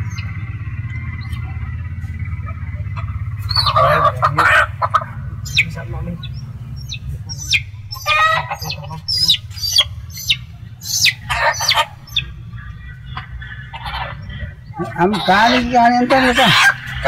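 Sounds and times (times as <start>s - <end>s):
small high calls: 0.0s - 17.0s
steady low hum: 0.0s - 17.0s
rooster clucking: 1.2s - 17.0s.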